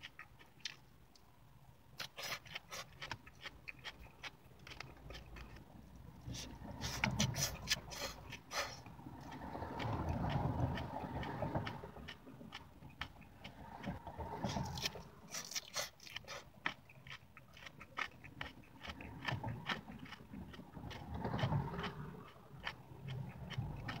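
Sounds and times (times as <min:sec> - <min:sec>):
chewing crisp salad: 0:00.0 - 0:01.2, 0:02.0 - 0:24.0.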